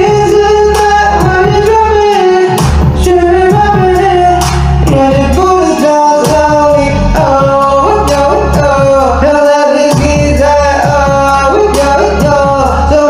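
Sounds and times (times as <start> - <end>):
pop song with singing: 0.0 - 13.0.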